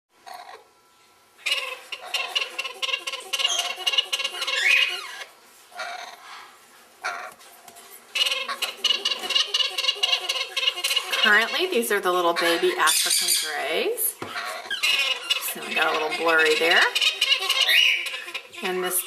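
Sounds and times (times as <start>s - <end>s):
parrots squawking: 1.4s - 6.4s, 7.0s - 7.4s, 8.1s - 19.0s.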